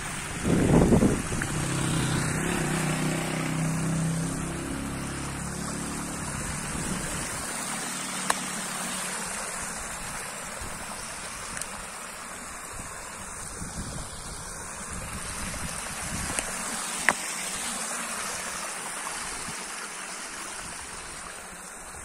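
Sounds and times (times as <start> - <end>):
low engine hum: 0.0 - 22.0
stream rushing over stones: 0.0 - 22.0.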